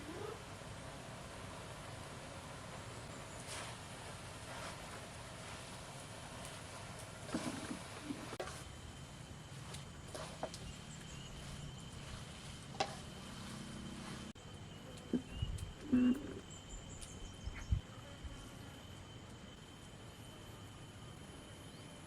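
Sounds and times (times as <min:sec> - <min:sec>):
high insect drone: 0:00.1 - 0:22.0.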